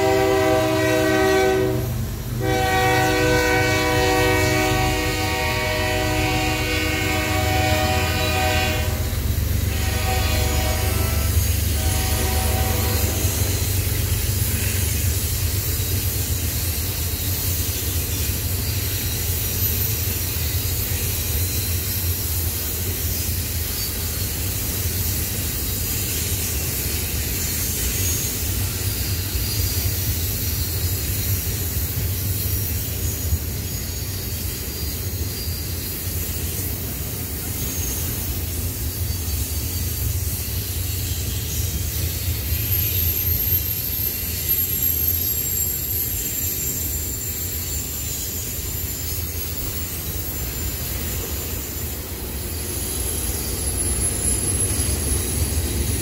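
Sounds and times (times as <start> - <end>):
train rumbling past: 0.0 - 56.0
wheels hissing on rails: 0.0 - 56.0.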